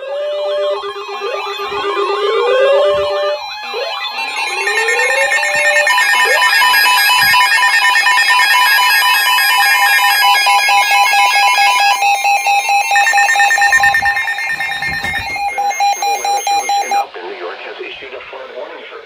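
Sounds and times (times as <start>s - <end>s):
pulsing electronic two-tone alarm: 0.0s - 17.0s.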